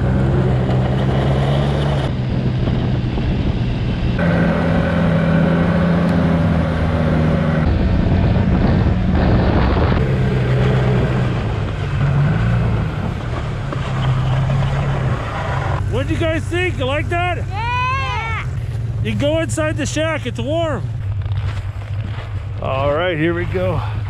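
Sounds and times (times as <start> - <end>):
snowmobile engine running: 0.0 - 24.0
track noise: 0.0 - 24.0
wind: 0.0 - 24.0.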